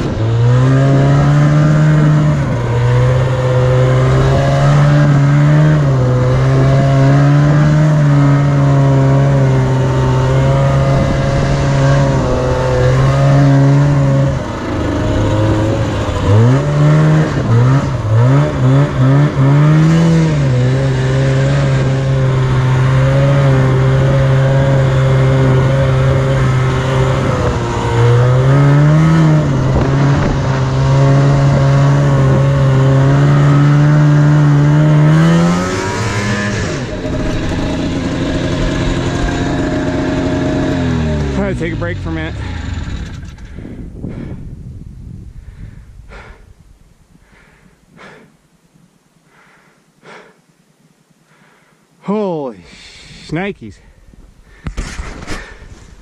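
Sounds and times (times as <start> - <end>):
snowmobile engine revving: 0.0 - 44.5, 45.6 - 46.5, 47.3 - 48.3, 49.3 - 50.4.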